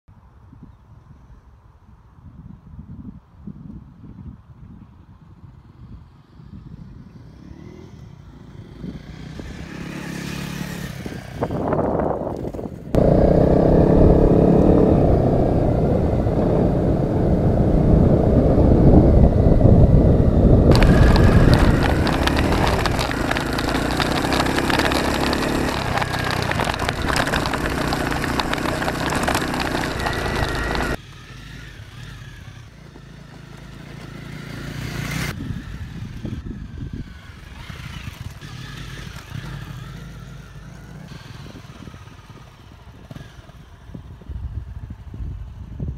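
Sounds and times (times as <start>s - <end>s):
motorcycle engine riding off-road: 5.4s - 45.9s.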